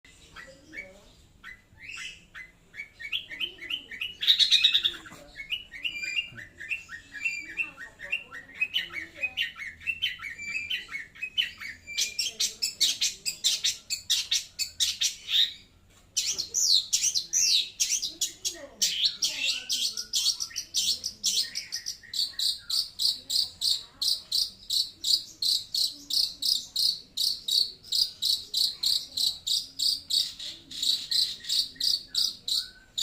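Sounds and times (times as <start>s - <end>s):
bird singing harsh chirps: 0.1s - 33.0s.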